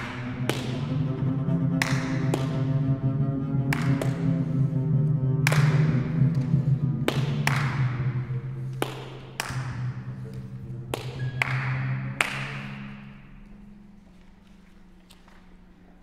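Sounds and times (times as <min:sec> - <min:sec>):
low held notes: 0:00.0 - 0:16.0.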